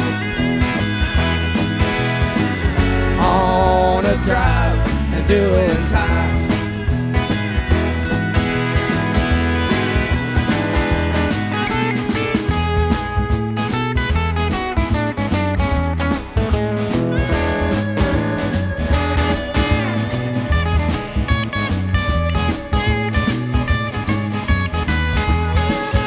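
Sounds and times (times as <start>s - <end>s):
electric guitar: 0.0s - 26.0s
live band instrumental jam: 0.0s - 26.0s.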